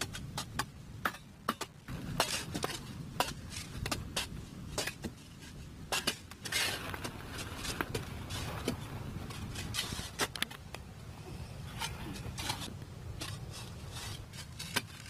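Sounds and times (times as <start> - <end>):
shovels striking hard earth: 0.0 - 10.7, 11.7 - 15.0.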